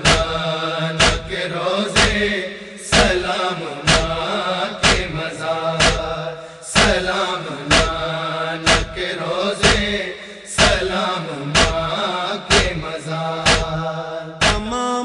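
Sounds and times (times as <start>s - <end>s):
heavy beat: 0.0s - 1.4s, 2.0s - 14.8s.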